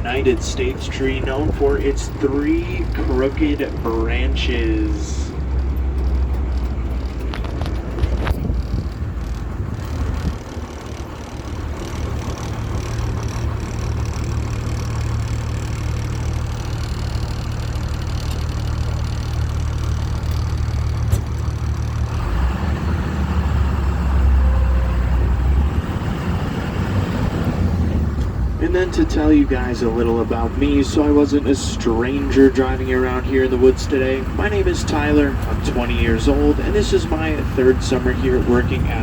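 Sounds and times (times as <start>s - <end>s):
boat engine low hum: 0.0s - 39.0s
road noise: 0.0s - 39.0s.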